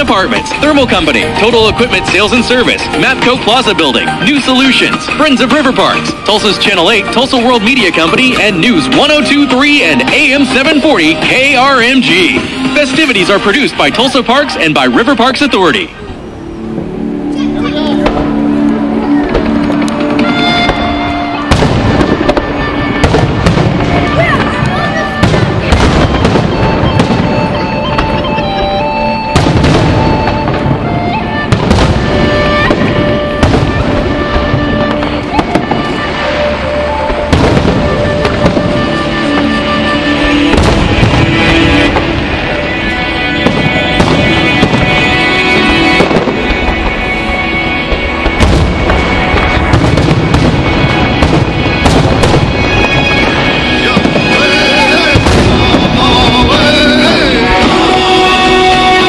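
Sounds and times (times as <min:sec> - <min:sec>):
fireworks bursting: 0:00.0 - 0:59.0
music over radio: 0:00.0 - 0:59.0.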